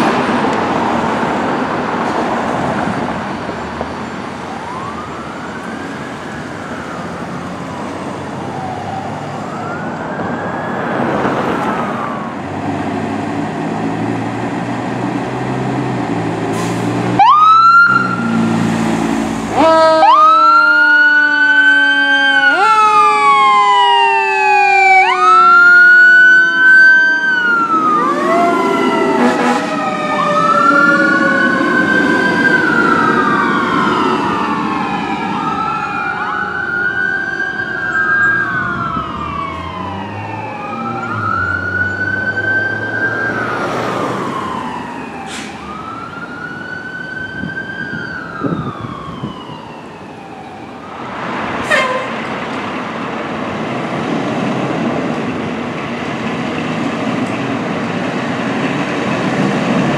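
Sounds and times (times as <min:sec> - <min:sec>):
fire engine siren wailing: 0:00.0 - 0:59.9
truck engine: 0:00.0 - 0:59.9.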